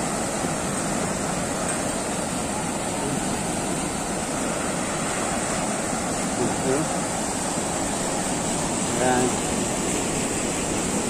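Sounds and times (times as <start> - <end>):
whitewater rushing: 0.0 - 11.0.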